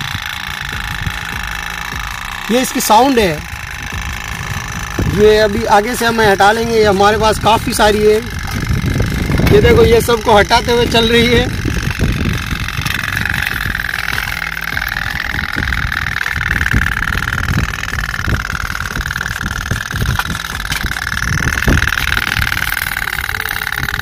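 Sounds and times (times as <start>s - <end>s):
low thumps: 0.0s - 24.0s
toy steam boats putt-putting: 0.0s - 24.0s.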